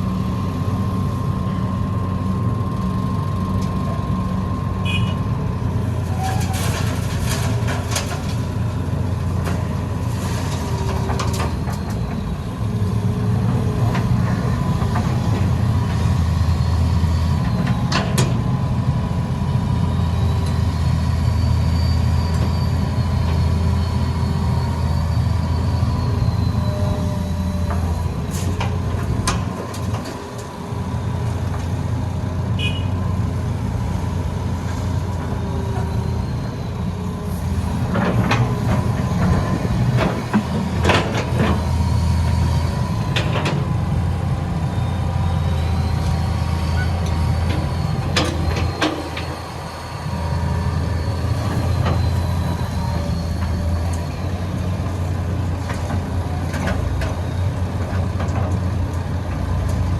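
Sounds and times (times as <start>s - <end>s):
excavator diesel engine with whine: 0.0s - 59.9s.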